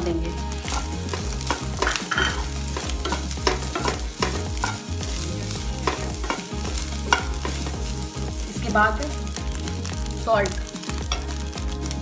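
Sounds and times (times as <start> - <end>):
rice sizzling in fat: 0.0 - 12.0.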